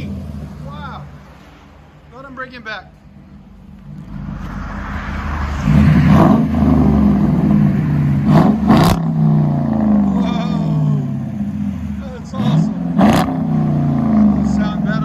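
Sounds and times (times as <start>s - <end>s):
vee eight engine exhaust: 0.0s - 15.0s.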